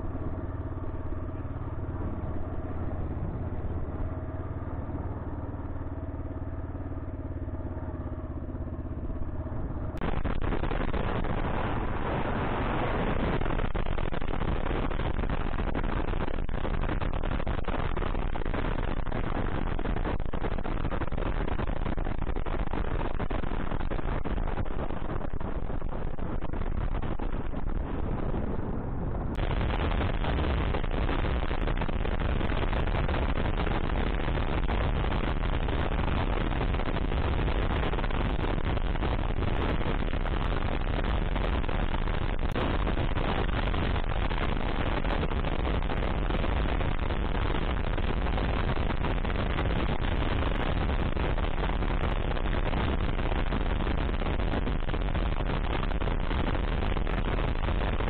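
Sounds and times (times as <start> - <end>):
motorcycle engine running: 0.0 - 58.0
wind buffeting microphone: 1.0 - 5.4, 9.6 - 58.0.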